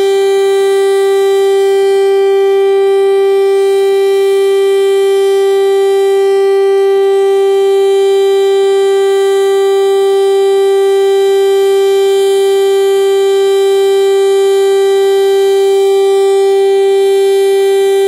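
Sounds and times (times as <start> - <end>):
warning siren steady tone: 0.0 - 18.0.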